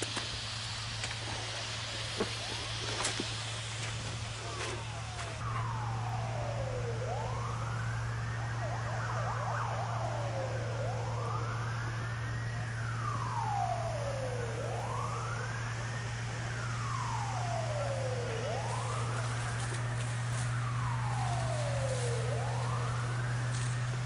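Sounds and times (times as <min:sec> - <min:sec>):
emergency siren wailing: 0:00.0 - 0:24.0
low steady hum: 0:00.0 - 0:24.0.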